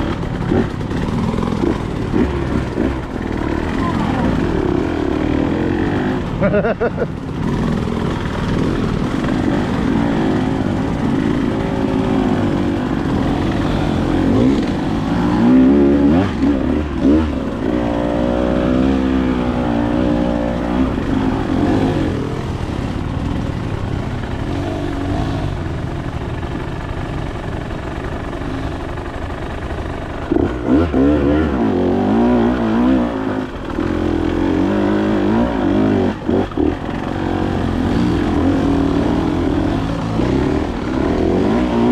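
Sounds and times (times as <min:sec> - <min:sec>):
dirt bike engine revving: 0:00.0 - 0:26.1, 0:28.4 - 0:41.9.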